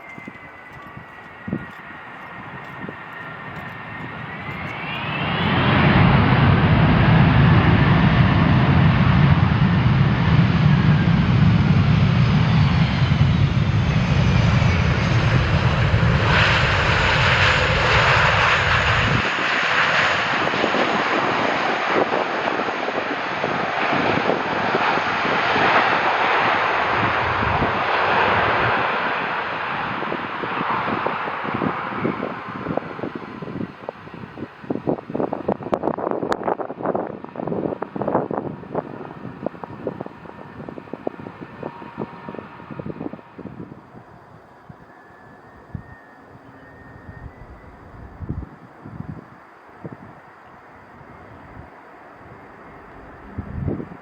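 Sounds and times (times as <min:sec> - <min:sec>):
jet airliner engine whine: 0:00.0 - 0:54.0
loud jet engine rumble: 0:00.0 - 0:54.0
rushing jet roar: 0:00.0 - 0:54.0.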